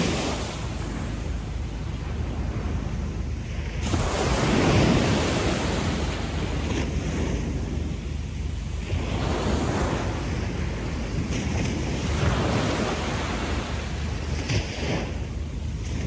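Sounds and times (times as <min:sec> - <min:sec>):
waves washing up a beach: 0:00.0 - 0:16.0
wind on microphone: 0:00.0 - 0:16.0.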